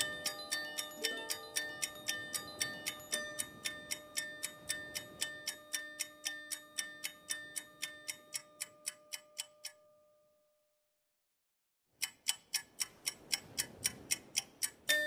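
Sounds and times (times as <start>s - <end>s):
clock-like ticking music: 0.0s - 10.0s, 12.0s - 15.0s.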